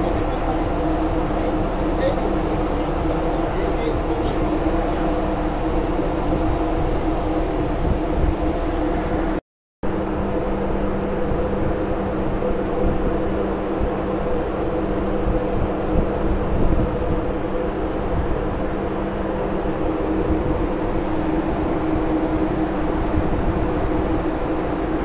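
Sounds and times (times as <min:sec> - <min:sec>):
ship machinery humming: 0:00.0 - 0:25.0.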